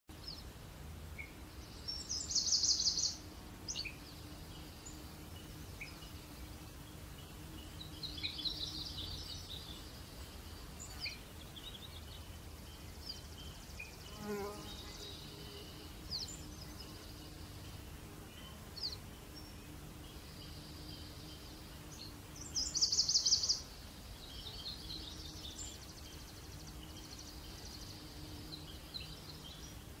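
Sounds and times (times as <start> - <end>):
small birds trilling: 0.2 - 30.0.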